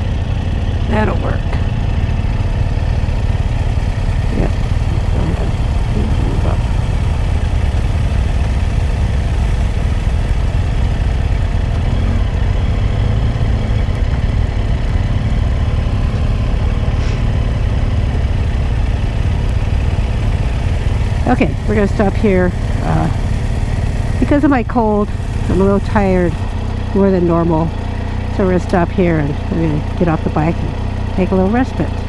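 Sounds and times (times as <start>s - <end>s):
motorcycle engine rumble: 0.0s - 32.0s
road noise: 0.0s - 32.0s.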